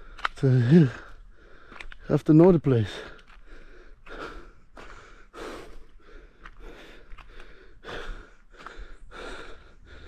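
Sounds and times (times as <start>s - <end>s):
person breathing hard: 0.0s - 2.1s, 2.8s - 10.0s.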